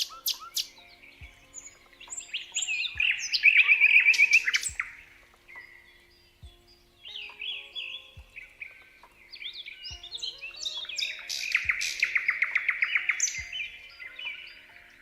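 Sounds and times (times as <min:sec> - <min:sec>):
bird trilling: 0:00.0 - 0:15.0
birds chirping and whistling: 0:00.0 - 0:15.0
soft background music: 0:00.0 - 0:15.0.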